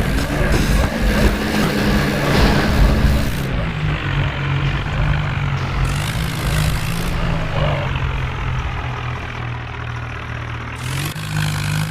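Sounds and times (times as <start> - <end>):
tractor diesel engine running: 0.0 - 11.9.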